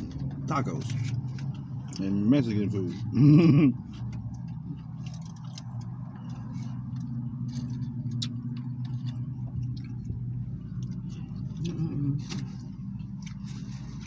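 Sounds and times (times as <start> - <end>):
car cabin hum: 0.0 - 14.0
person chewing fries: 0.0 - 14.0.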